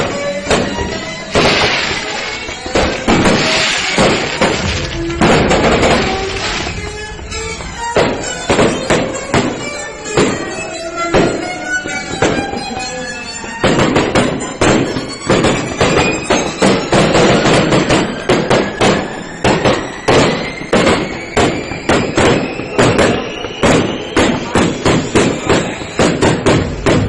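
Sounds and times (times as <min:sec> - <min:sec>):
fireworks bangs: 0:00.0 - 0:12.8, 0:13.5 - 0:27.0.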